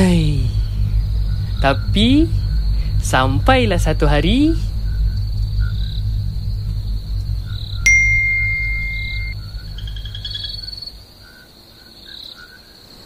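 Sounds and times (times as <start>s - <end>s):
low rumble: 0.0s - 11.6s
faint cricket-like chirps: 0.0s - 13.0s.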